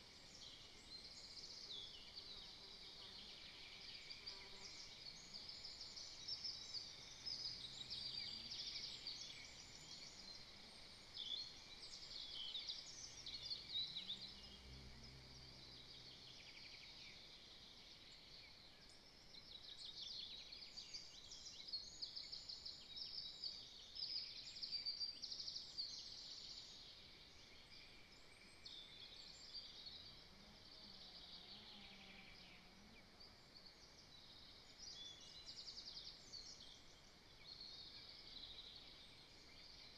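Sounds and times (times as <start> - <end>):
faint songbirds chirping: 0.0 - 39.9.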